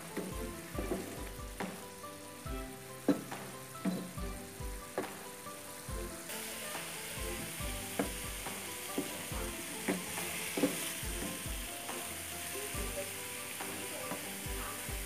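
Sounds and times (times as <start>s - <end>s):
onion paste sizzling in oil: 0.0s - 15.0s.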